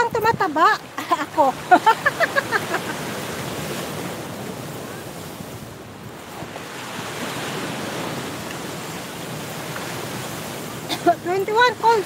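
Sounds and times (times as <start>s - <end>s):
surf washing onto rocky shore: 0.0s - 12.0s
wind on microphone: 0.0s - 12.0s.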